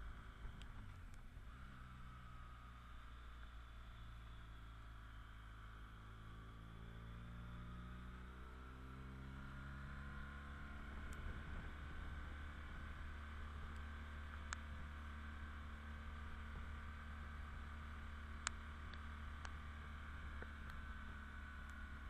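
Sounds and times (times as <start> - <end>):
faint motorcycle engine running: 0.0 - 22.0.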